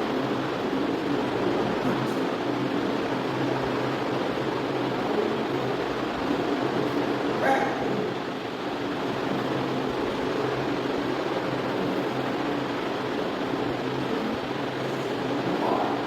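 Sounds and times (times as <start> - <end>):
droning hum: 0.0 - 16.0.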